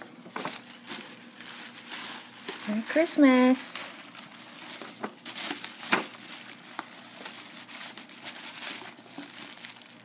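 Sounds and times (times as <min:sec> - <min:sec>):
paper bag and tissue crinkling: 0:00.3 - 0:10.0.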